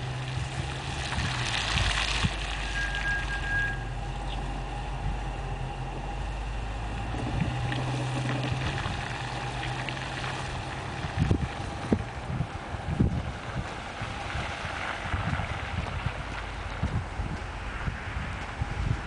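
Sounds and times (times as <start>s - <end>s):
car engine driving away: 0.0s - 19.0s
wind noise on microphone: 0.0s - 19.0s.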